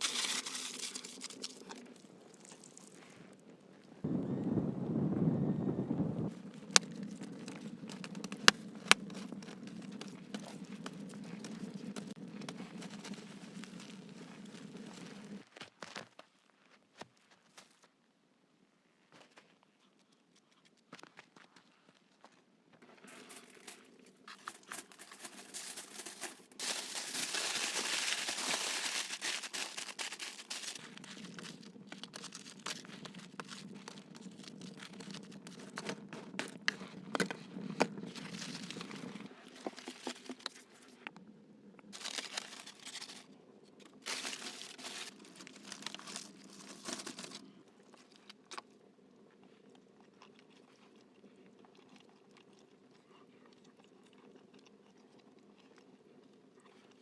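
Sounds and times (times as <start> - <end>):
crinkling and crunching: 0.0 - 4.1, 6.3 - 17.9, 20.4 - 41.2, 41.8 - 57.0.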